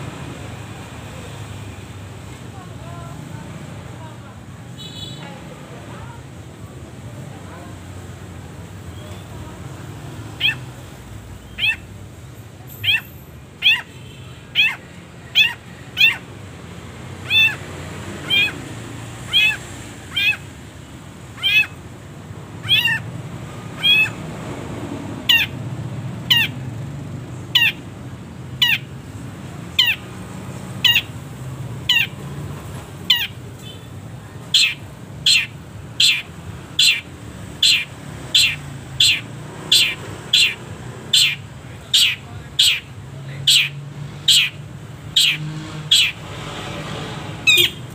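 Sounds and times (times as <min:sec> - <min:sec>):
shrike sharp calls: 0:08.5 - 0:46.4, 0:47.4 - 0:47.9.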